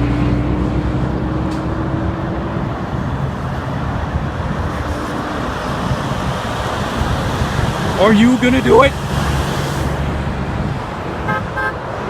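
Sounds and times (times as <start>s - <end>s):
highway traffic rushing past: 0.0s - 12.0s.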